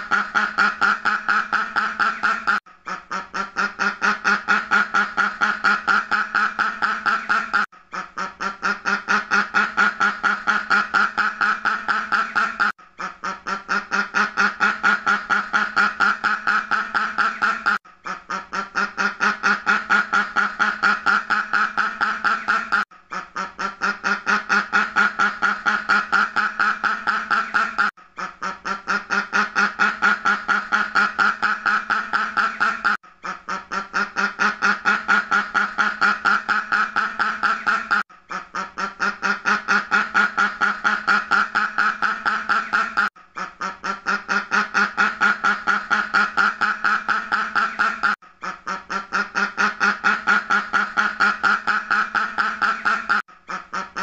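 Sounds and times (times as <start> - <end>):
duck quacking: 0.0 - 54.0.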